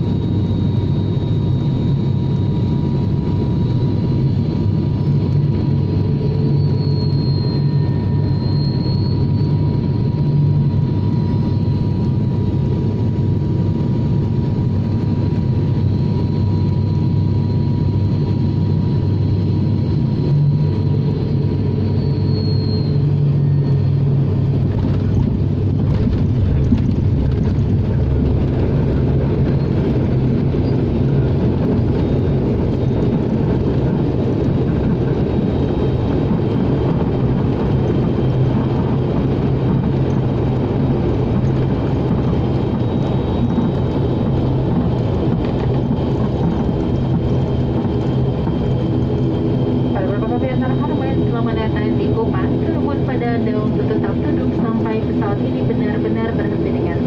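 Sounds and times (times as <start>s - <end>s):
high engine whine: 0.0s - 57.0s
propeller engines droning: 0.0s - 57.0s
rushing of plane on runway: 0.0s - 57.0s.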